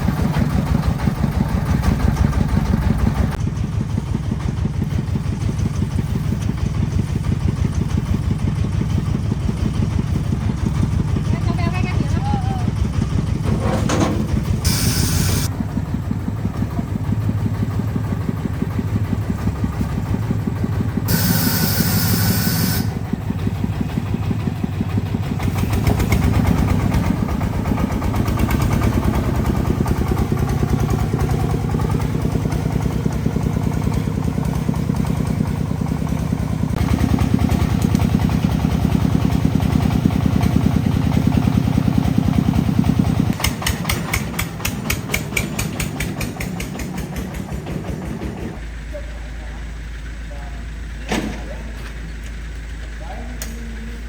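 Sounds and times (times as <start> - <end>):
truck engine chugging: 0.0 - 54.0.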